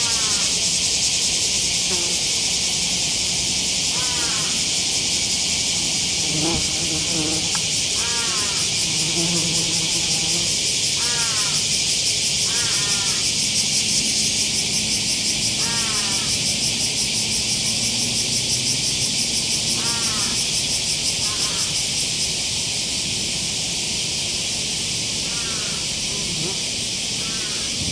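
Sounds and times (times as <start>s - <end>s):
insects chorus pulsing: 0.0s - 27.9s.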